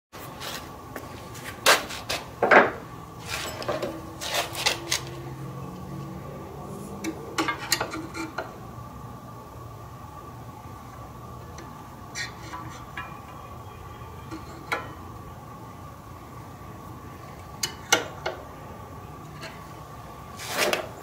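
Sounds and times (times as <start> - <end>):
faint high hum: 0.2 - 21.0.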